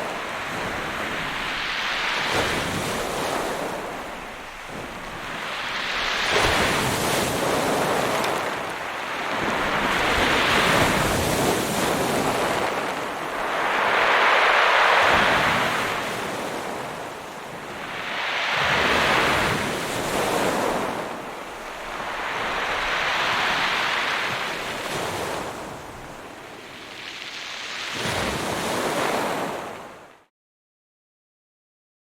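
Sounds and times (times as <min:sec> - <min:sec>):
waves breaking on shore: 0:00.0 - 0:30.3.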